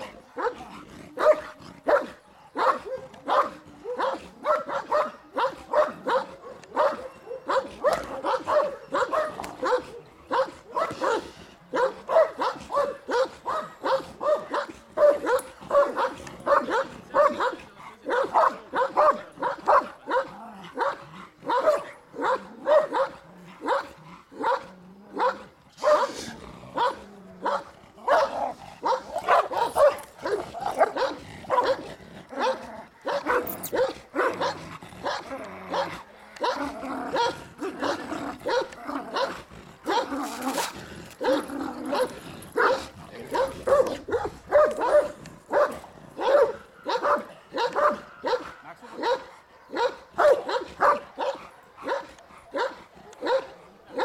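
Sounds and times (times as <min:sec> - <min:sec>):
dog barking: 0:00.4 - 0:00.6, 0:01.2 - 0:40.2, 0:41.2 - 0:54.0.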